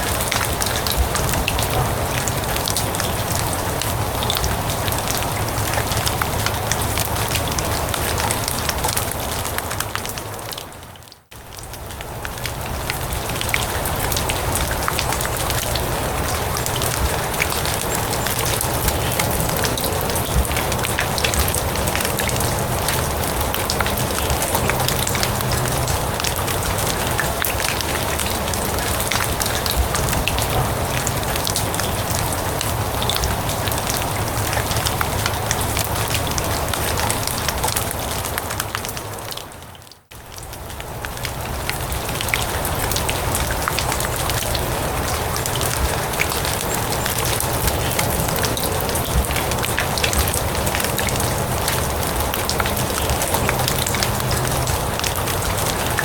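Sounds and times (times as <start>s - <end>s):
rain falling on grass: 0.0s - 56.0s.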